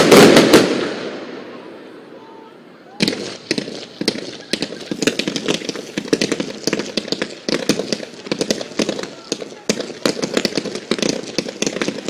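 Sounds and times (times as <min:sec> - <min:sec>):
fireworks cracking and popping: 0:00.0 - 0:01.2, 0:03.0 - 0:12.0.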